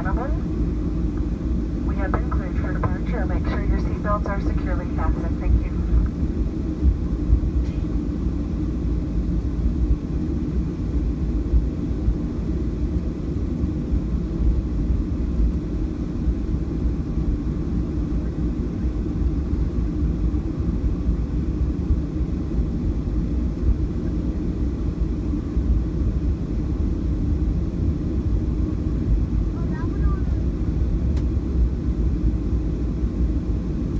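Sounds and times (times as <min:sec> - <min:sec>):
jet engine cabin rumble: 0:00.0 - 0:33.9.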